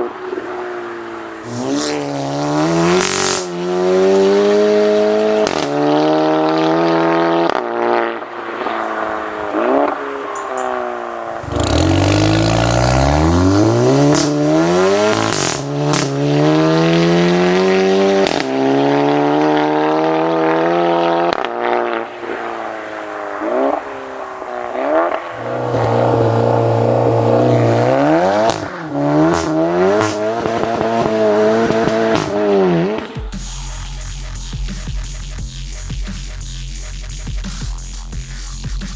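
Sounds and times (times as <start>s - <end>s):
car engine revving: 0.0s - 38.9s
exhaust cracks: 0.0s - 38.9s.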